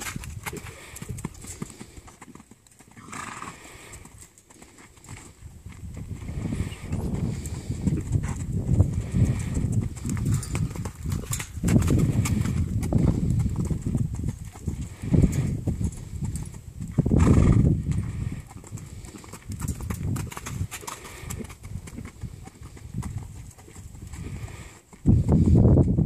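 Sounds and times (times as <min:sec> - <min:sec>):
horse hoofbeats on dirt: 0:00.0 - 0:26.0.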